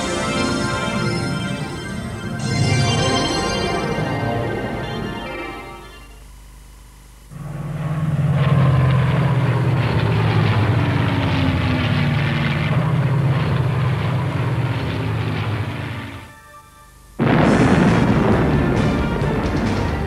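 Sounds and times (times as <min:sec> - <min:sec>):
biplane engine droning overhead: 0:00.0 - 0:20.0.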